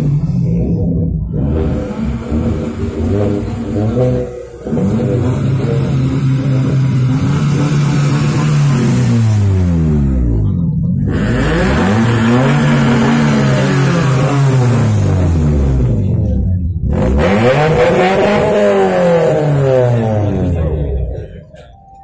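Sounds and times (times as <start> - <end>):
engine revving up and down: 0.0 - 21.3.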